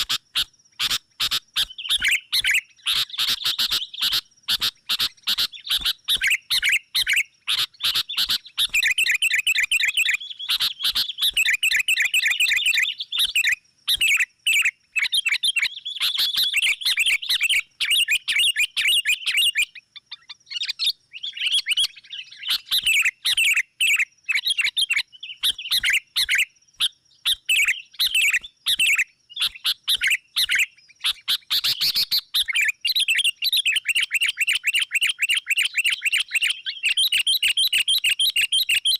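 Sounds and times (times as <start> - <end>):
bulbuls chirping: 0.0 - 38.8.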